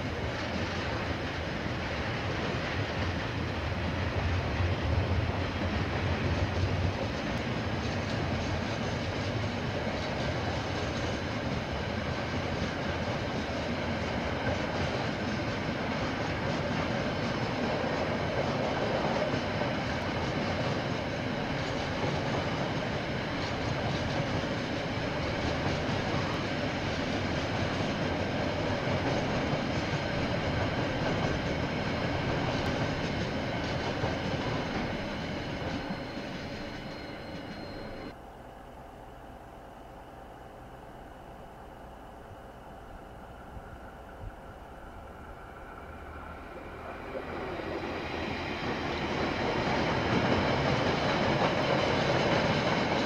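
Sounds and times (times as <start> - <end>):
train wheels clattering on rails: 0.0 - 38.1, 45.8 - 53.0.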